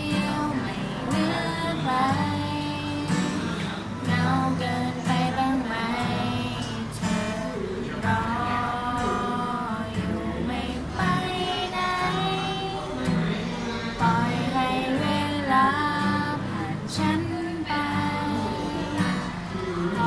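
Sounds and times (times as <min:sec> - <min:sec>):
acoustic guitar strumming: 0:00.0 - 0:20.0
girls singing together: 0:00.0 - 0:20.0.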